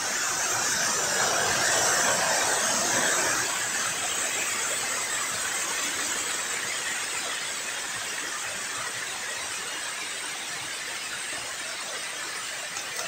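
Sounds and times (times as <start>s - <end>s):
waterfall splashing over rocks: 0.0s - 13.0s.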